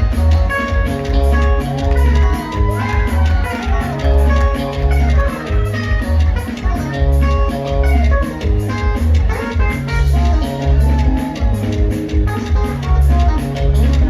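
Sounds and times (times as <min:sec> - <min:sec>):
upbeat dance music: 0:00.0 - 0:14.0.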